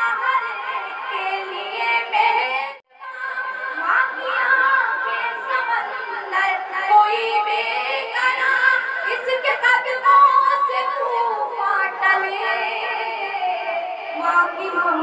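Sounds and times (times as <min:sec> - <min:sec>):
woman singing verse: 0:00.0 - 0:15.0.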